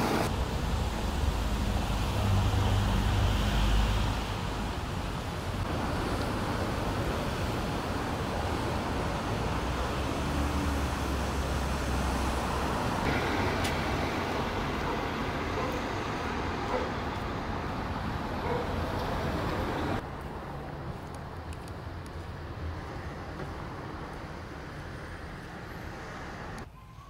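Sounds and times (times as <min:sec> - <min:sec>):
cars on a street: 0:00.0 - 0:27.0.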